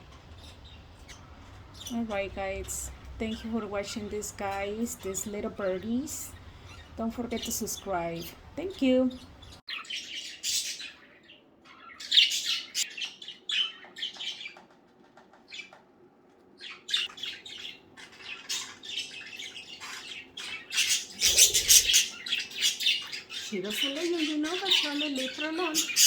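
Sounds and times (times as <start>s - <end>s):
budgerigars chattering: 0.0s - 14.5s, 16.6s - 26.0s.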